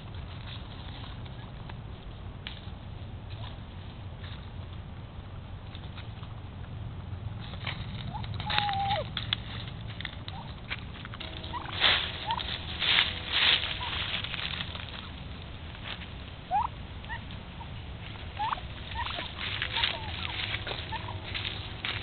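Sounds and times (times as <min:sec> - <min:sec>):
turkeys calling: 0:00.0 - 0:04.7, 0:07.4 - 0:22.0
rustling in dry leaves: 0:00.0 - 0:22.0.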